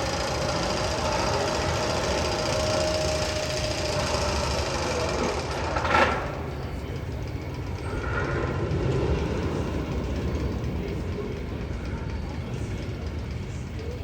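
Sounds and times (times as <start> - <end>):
roller coaster rumbling on rails: 0.0 - 14.0.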